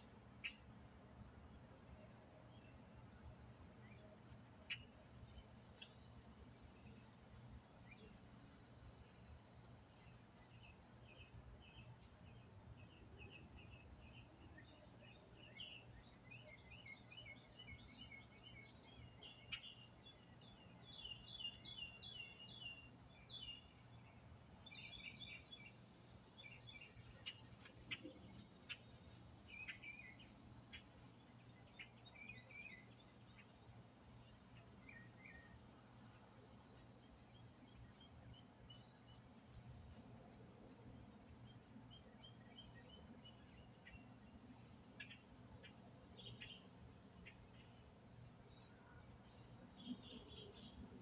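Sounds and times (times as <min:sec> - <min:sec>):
small birds chirping: 0:00.0 - 0:00.8, 0:01.8 - 0:08.4, 0:09.1 - 0:35.6, 0:36.5 - 0:51.0.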